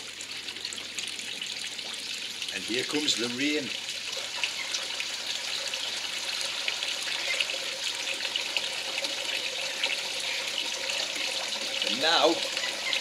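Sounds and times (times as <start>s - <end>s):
water stream pouring into pond: 0.0s - 13.0s.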